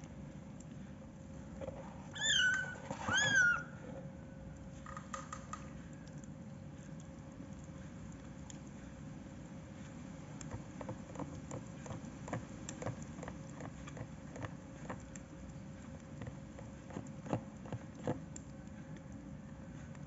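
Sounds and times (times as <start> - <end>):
faint steady hum: 0.0 - 20.0
kittens chewing and licking food: 0.0 - 20.0.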